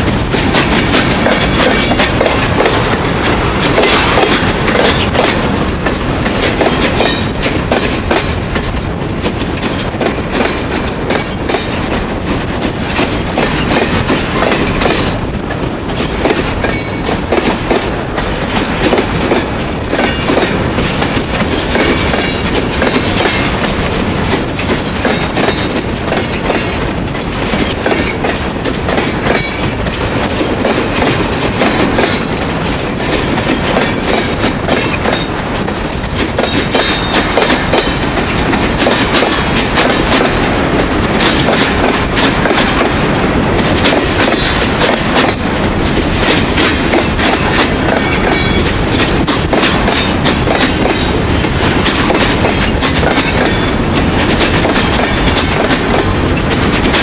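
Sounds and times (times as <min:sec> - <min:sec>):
freight train wheels rumbling: 0:00.0 - 0:57.0
wheels clacking on rails: 0:00.0 - 0:57.0.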